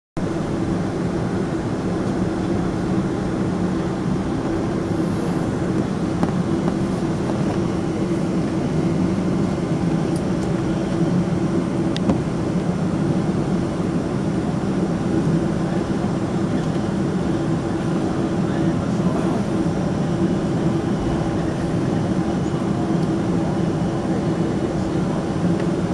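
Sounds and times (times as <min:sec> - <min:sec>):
jet engines humming in cabin: 0:00.2 - 0:25.9.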